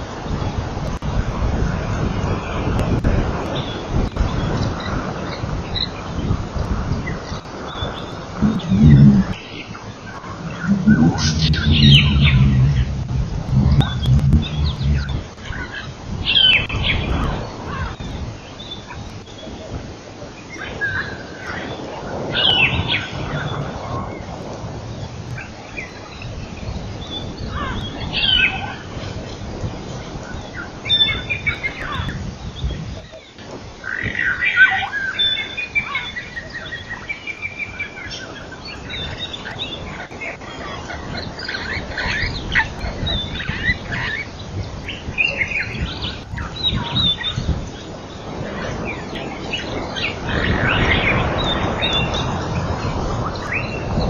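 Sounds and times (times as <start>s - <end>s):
background hiss: 0.0s - 54.0s
wild birds chirping and trilling: 3.6s - 54.0s.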